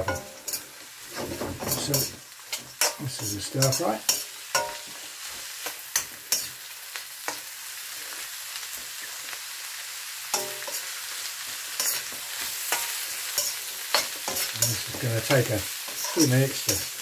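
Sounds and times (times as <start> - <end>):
spoon scraping a wok: 0.0 - 7.9, 10.3 - 17.0
vegetables sizzling in oil: 0.0 - 17.0.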